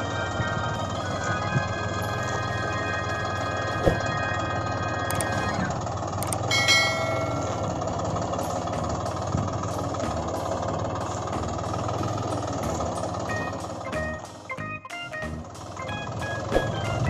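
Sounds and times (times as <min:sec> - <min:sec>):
toy vehicle engine running: 0:00.0 - 0:14.6.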